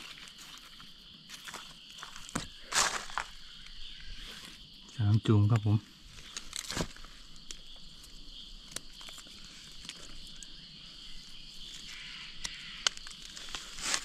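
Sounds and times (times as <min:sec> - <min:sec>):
snaps and rustles underfoot: 0:00.0 - 0:04.6, 0:05.4 - 0:10.5, 0:11.6 - 0:14.0
insect chorus: 0:00.0 - 0:14.0.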